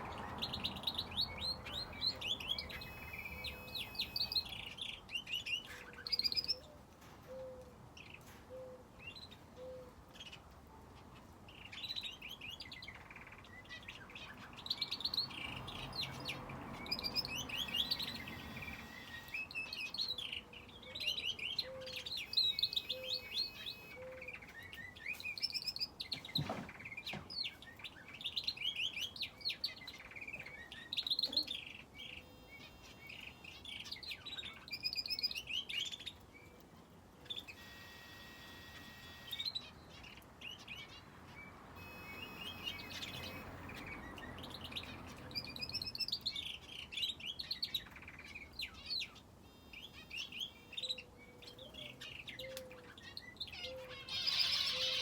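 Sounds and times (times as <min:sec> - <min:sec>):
finches and canary chirping: 0:00.0 - 0:06.7, 0:11.0 - 0:55.0.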